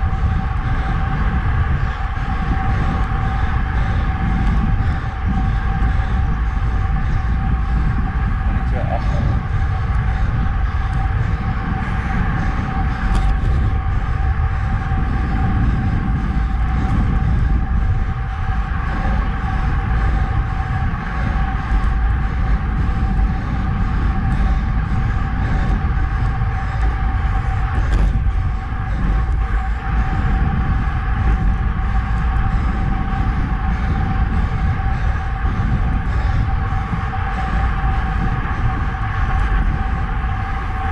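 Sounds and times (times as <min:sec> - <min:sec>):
thin steady hum: 0:00.0 - 0:40.9
tyre noise on asphalt: 0:00.0 - 0:40.9
wind rush on microphone: 0:00.0 - 0:40.9.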